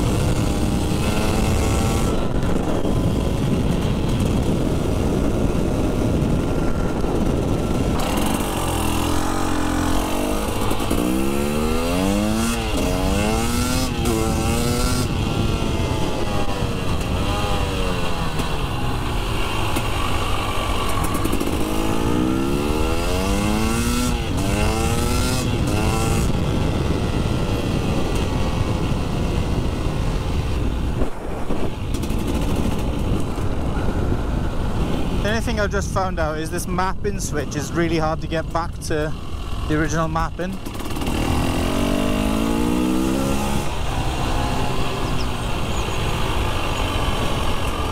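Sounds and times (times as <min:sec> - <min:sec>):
motorcycle engine shifting gears: 0:00.0 - 0:35.4, 0:37.2 - 0:47.9.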